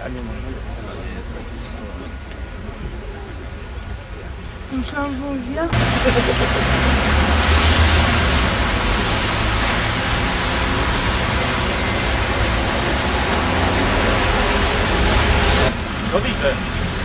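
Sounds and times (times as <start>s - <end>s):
road traffic roar: 0.0s - 17.0s.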